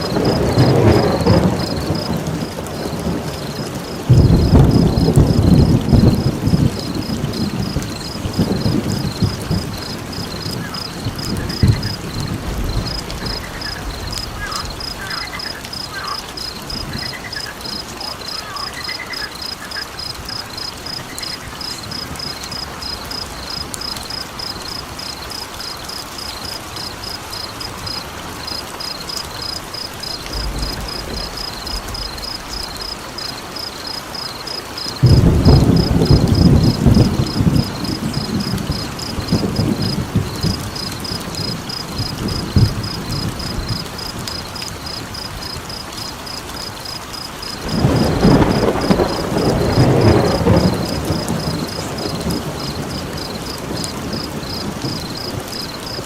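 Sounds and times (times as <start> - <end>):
thunder rolling: 0.0 - 25.7, 26.3 - 45.8, 47.4 - 56.0
frog calls: 0.0 - 56.0
insect chirping: 0.0 - 56.0
rain hiss: 0.0 - 56.0.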